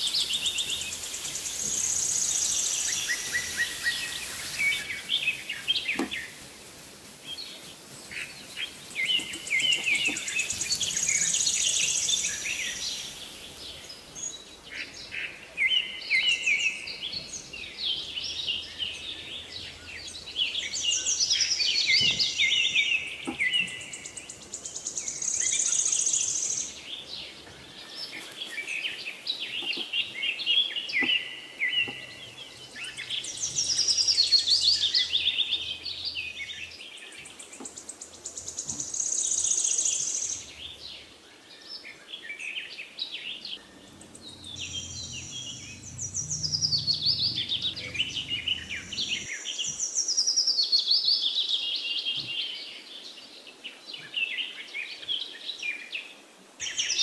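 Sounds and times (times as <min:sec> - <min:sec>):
birds chirping and singing: 0:00.0 - 0:55.9.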